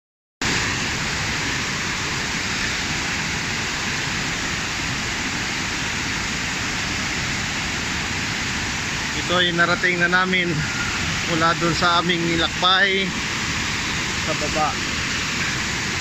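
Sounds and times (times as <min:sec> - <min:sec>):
falling water rushing: 0:00.4 - 0:16.0.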